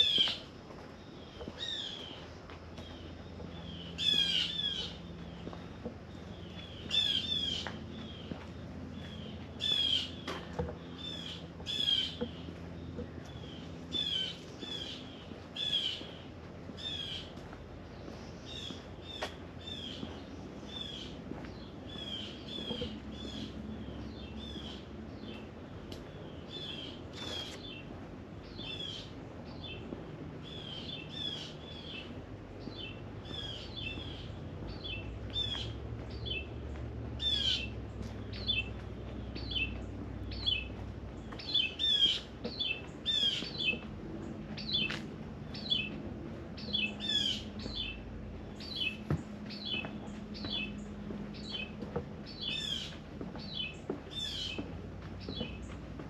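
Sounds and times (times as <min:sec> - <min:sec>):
birds calling: 0:00.0 - 0:56.0.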